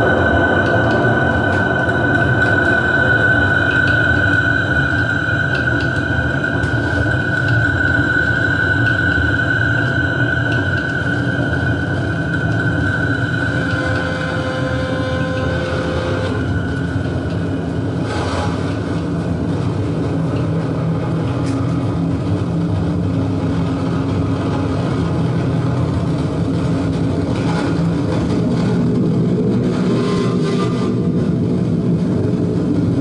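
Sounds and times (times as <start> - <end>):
dark ambient noise drone: 0.0 - 33.0.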